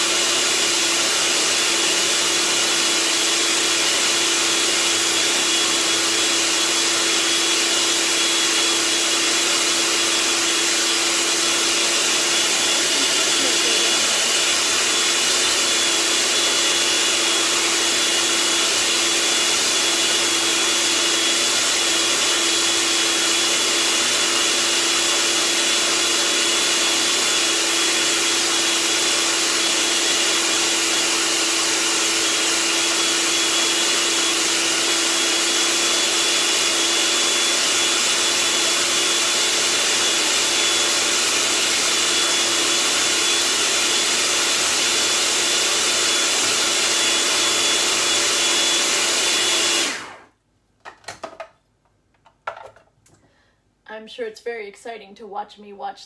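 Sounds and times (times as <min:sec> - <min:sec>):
food processor motor running: 0:00.0 - 0:50.3.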